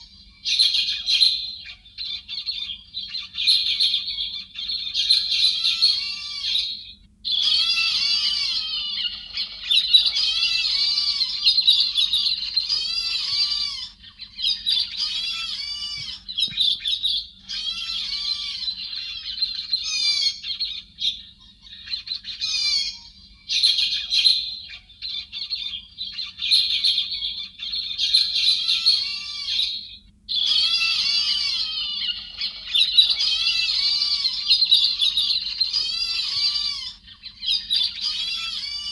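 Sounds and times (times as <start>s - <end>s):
bird chattering warbles: 0.0s - 38.9s.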